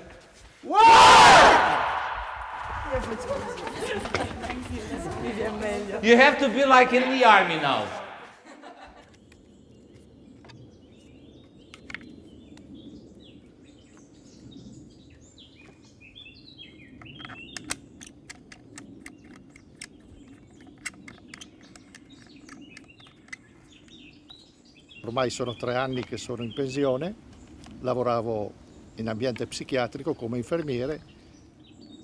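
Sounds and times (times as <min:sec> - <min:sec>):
outdoor ambience: 0:00.0 - 0:32.0
birds chirping: 0:00.8 - 0:32.0.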